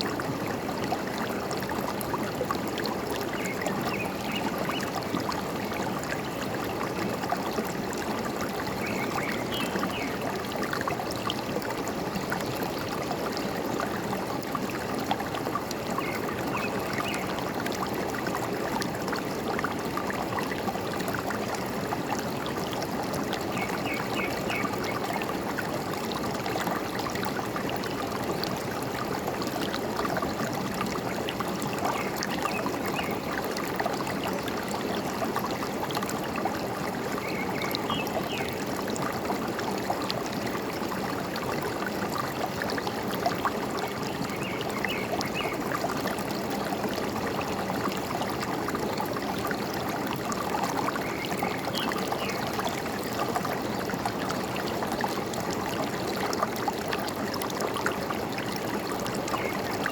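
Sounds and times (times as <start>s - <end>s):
forest stream gurgling: 0.0s - 59.9s.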